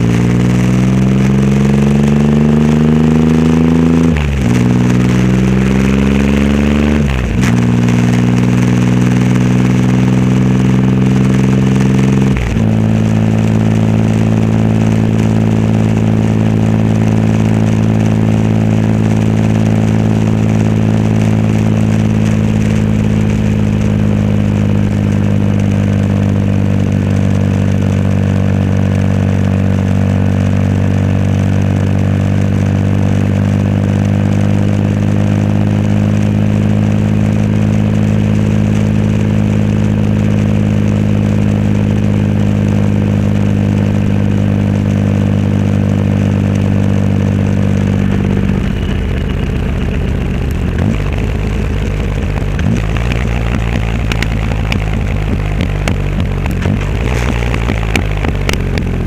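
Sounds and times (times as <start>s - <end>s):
motorcycle engine shifting gears: 0.0s - 59.0s.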